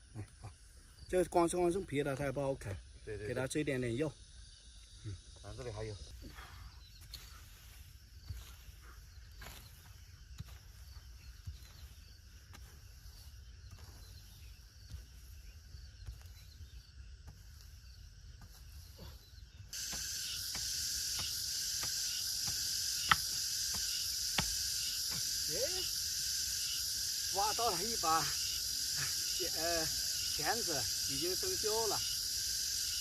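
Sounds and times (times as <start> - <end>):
insect chorus: 0.0 - 33.0.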